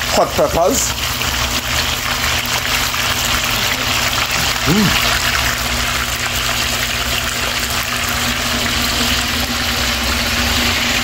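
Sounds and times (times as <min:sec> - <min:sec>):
meat frying in hot oil: 0:00.0 - 0:11.0.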